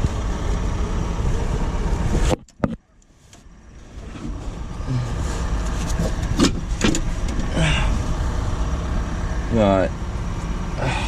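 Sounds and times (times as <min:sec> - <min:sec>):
motor vehicle rumbling: 0:00.0 - 0:11.0.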